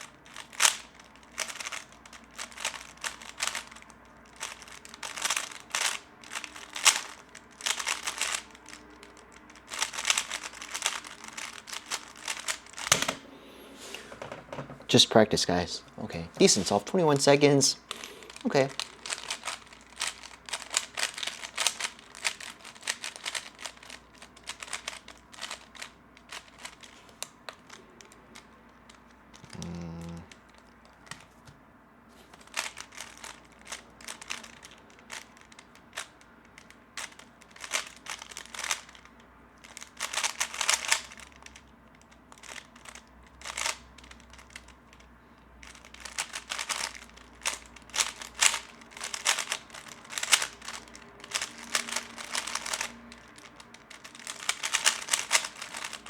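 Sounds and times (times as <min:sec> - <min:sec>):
puzzle cube clicking: 0:00.2 - 0:13.3, 0:16.4 - 0:31.2, 0:32.3 - 0:41.5, 0:42.3 - 0:44.5, 0:45.6 - 0:56.0.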